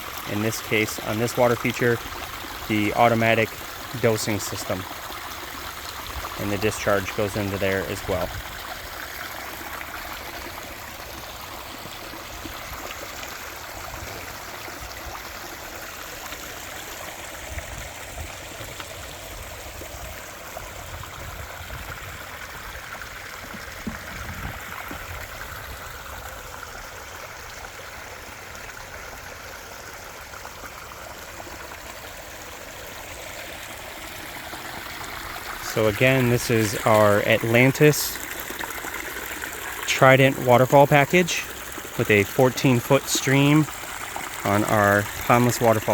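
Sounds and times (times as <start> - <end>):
water splashing over small waterfall: 0.0 - 45.9.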